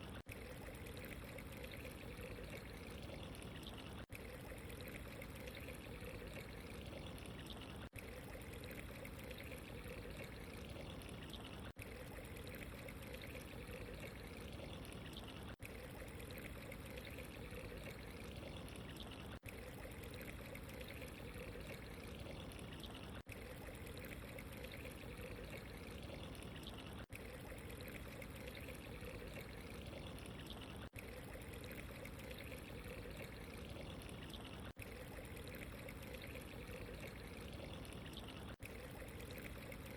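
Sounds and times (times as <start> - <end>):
trickling pouring water: 0.0 - 39.9.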